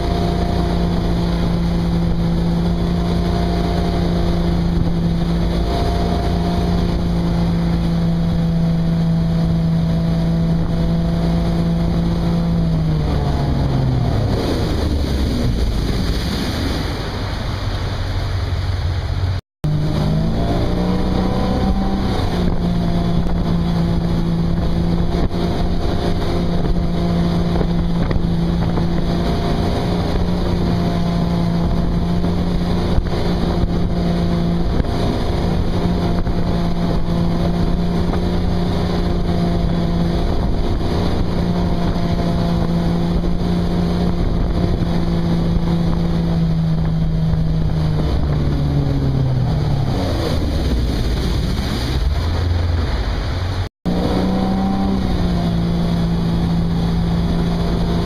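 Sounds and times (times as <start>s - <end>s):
motorboat engine: 0.0s - 58.0s
water rushing: 0.0s - 58.0s
wind: 0.0s - 58.0s.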